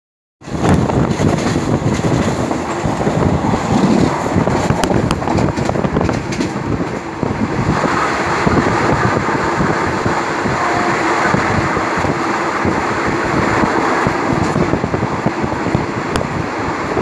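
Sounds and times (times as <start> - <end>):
rushing air: 0.4 - 17.0
train wheels rumbling on rails: 0.4 - 17.0.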